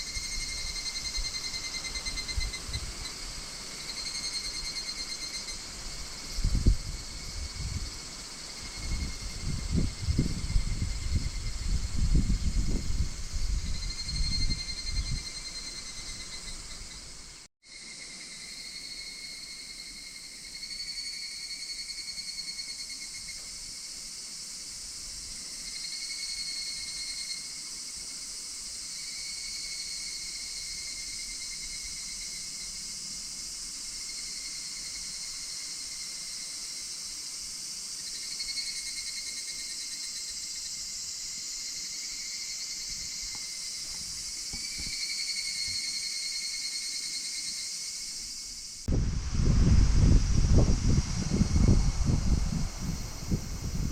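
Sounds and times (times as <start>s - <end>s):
cicadas trilling: 0.0s - 53.9s
high insect chorus: 0.0s - 53.9s.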